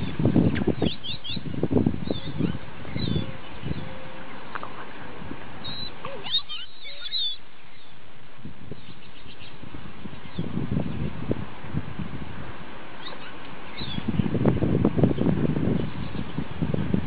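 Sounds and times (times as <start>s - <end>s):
small birds chirping: 0.0s - 8.1s, 8.7s - 11.3s, 13.0s - 16.6s.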